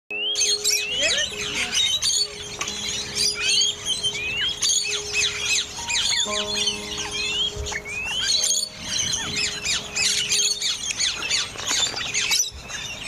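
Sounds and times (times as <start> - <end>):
birds chirping and calling: 0.1 - 13.0.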